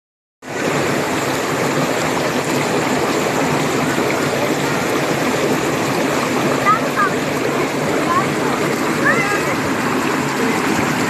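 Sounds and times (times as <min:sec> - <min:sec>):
waterfall rushing: 0:00.5 - 0:11.0.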